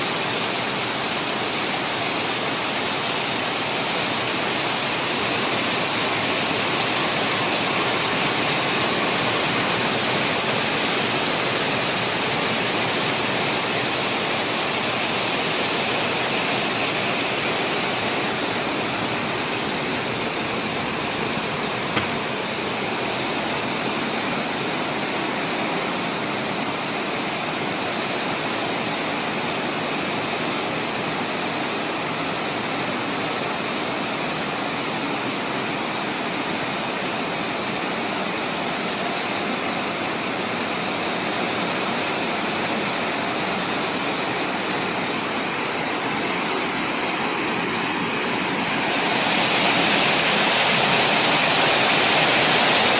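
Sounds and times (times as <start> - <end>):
heavy rain hissing: 0.0 - 52.9.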